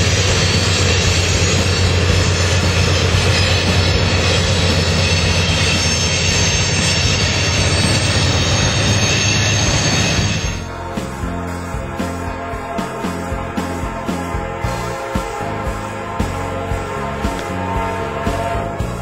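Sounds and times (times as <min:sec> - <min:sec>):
diesel locomotives droning: 0:00.0 - 0:19.0.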